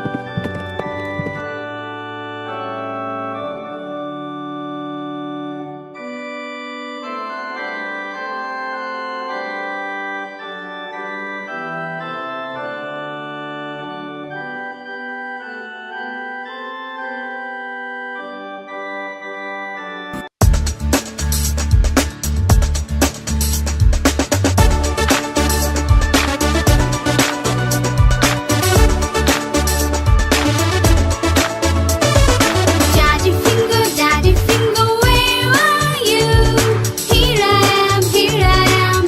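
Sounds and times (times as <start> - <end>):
electronic organ music: 0.0 - 20.3, 24.6 - 39.0.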